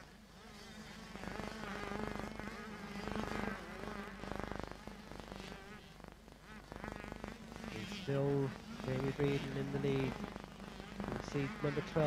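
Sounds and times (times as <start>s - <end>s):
motocross bikes buzzing whine: 0.0s - 12.0s.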